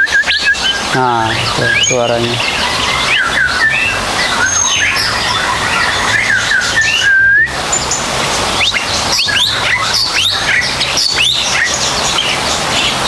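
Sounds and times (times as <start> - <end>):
bird liquid whistles: 0.0 - 13.0.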